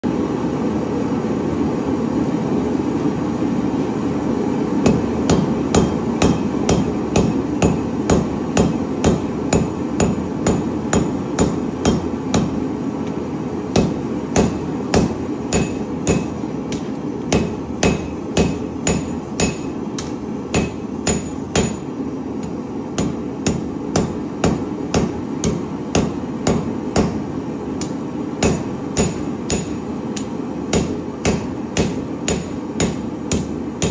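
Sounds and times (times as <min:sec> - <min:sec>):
hammer striking steel on anvil: 0:04.8 - 0:33.9.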